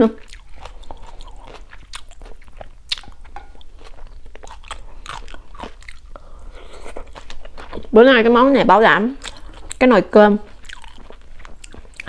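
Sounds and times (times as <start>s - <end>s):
person chewing food: 0.0s - 8.0s, 9.1s - 9.8s, 10.4s - 12.0s.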